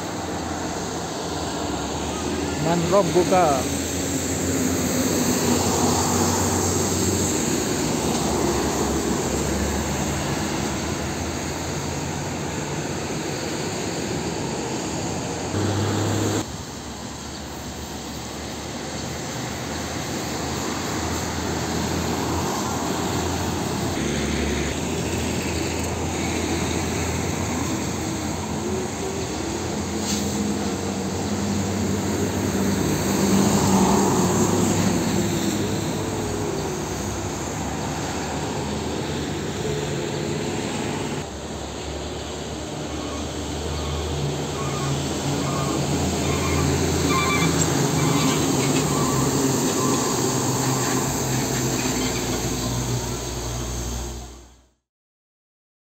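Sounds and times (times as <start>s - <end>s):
trucks driving past on wet road: 0.0s - 54.7s.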